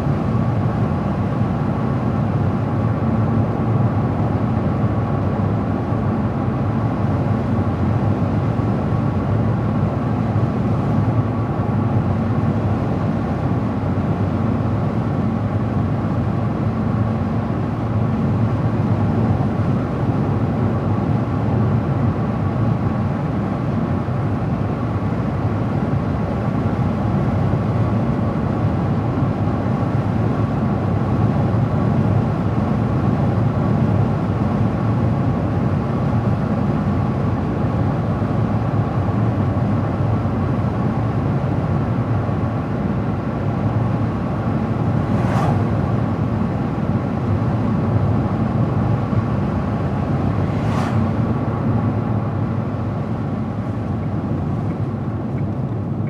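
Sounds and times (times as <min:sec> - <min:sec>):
car tyres and engine drone: 0:00.0 - 0:56.0.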